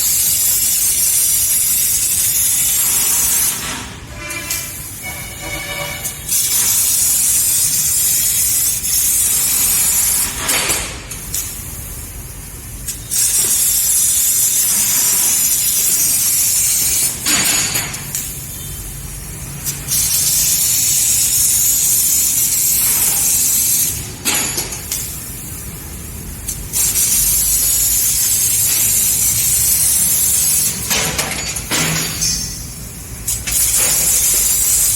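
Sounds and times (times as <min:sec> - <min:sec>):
laser cutter gas hissing: 0:00.0 - 0:34.9.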